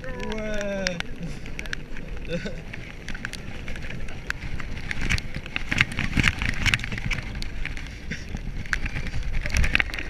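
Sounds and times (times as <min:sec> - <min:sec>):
coaster wheels rumbling: 0:00.0 - 0:10.0
crackling and rattling: 0:00.0 - 0:10.0.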